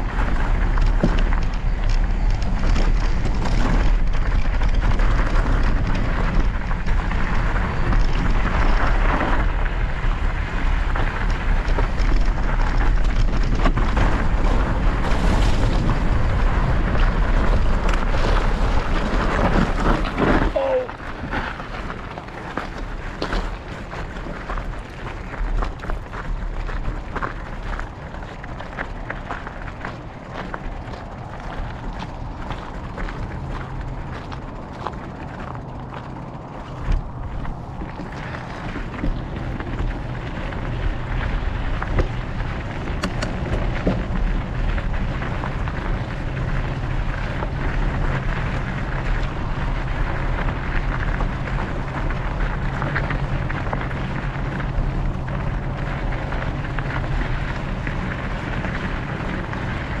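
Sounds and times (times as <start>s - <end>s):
tyres rolling over gravel: 0.0s - 60.0s
wind noise on microphone: 0.0s - 60.0s.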